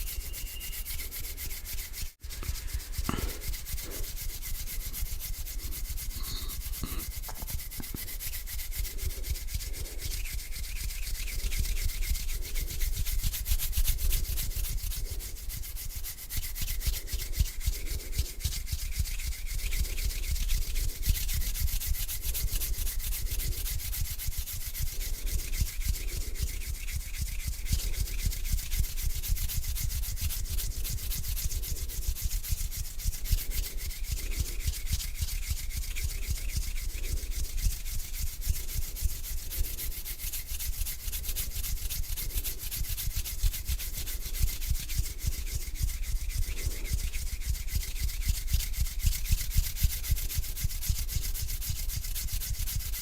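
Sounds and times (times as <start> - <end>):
hands rubbing together: 0.0 - 53.0.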